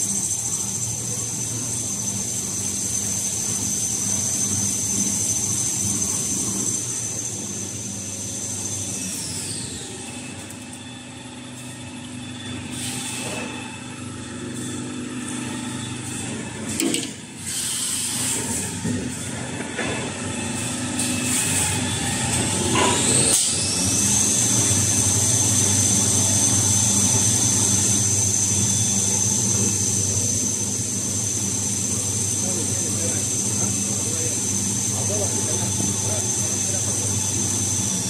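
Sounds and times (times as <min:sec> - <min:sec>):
machinery humming: 0:00.0 - 0:17.6, 0:18.2 - 0:38.0.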